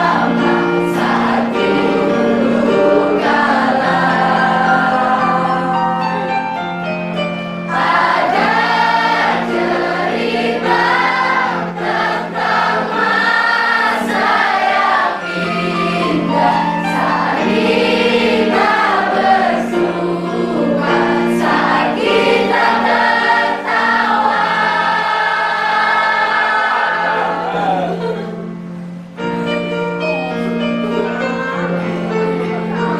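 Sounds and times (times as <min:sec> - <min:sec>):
group singing in chorus: 0:00.0 - 0:06.4, 0:07.7 - 0:28.2
instrumental accompaniment: 0:00.0 - 0:32.9.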